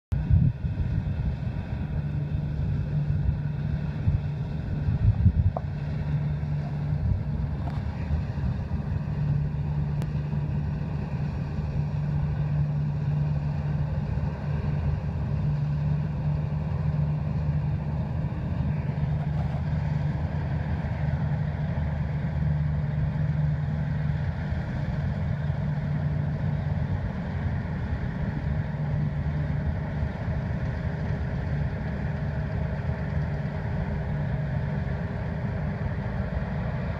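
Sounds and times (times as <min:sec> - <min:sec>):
combine harvester engine droning: 0:00.1 - 0:36.9.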